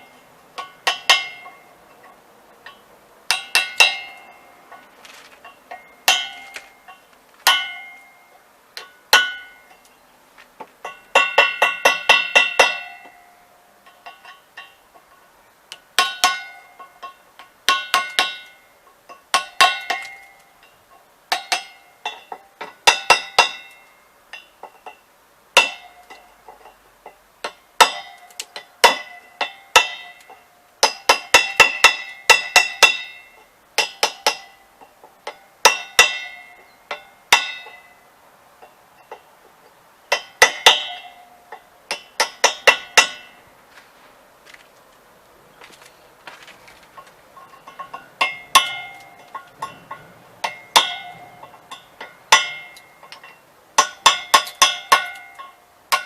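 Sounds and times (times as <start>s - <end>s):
metal wheels being struck: 0.0s - 10.0s, 10.8s - 15.2s, 15.8s - 43.5s, 46.9s - 56.0s.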